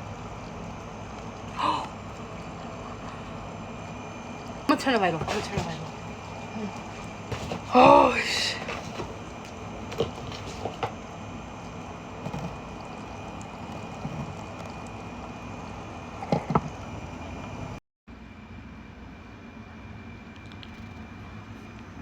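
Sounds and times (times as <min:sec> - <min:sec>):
water pump humming: 0:00.0 - 0:17.8.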